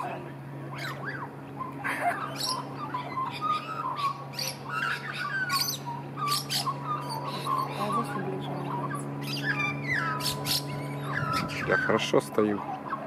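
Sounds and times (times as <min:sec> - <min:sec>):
birds squawking and chirping: 0:00.0 - 0:13.0
steady low hum: 0:00.0 - 0:13.0.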